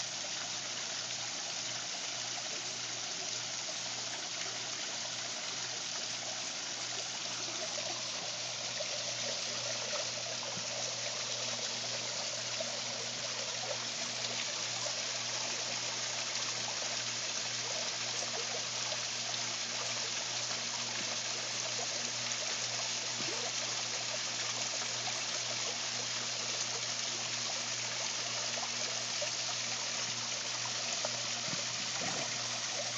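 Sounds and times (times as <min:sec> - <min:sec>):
waterfall splashing into pool: 0:00.0 - 0:32.9.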